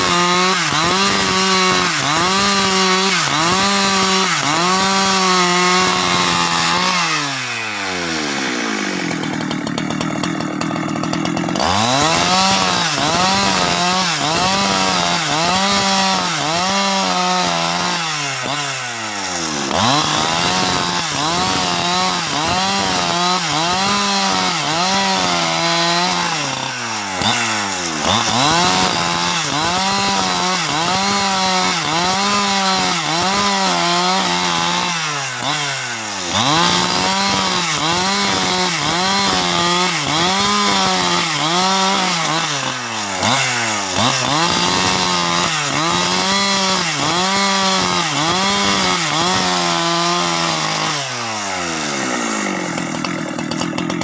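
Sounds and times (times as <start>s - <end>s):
chainsaw ripping a log: 0.0s - 54.0s.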